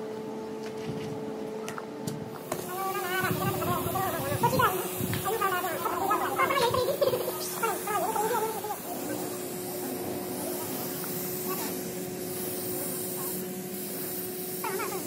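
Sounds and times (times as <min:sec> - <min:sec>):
steady hum: 0:00.0 - 0:15.0
paint spray gun hissing: 0:02.4 - 0:15.0.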